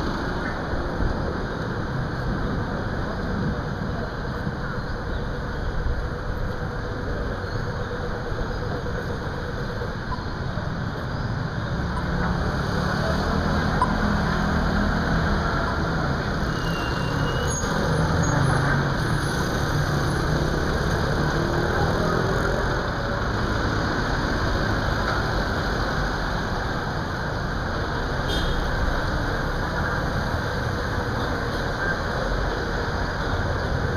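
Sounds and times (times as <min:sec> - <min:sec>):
street traffic: 0:00.0 - 0:33.9.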